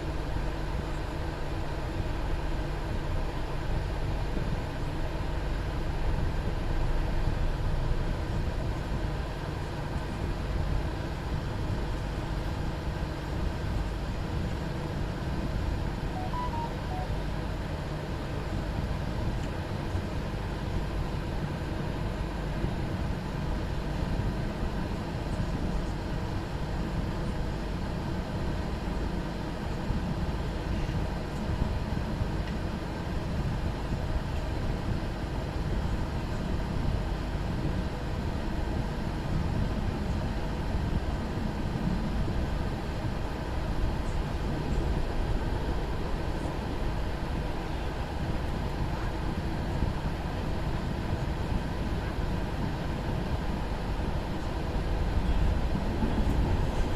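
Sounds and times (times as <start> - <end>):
moving vehicle rumble: 0.0 - 56.9.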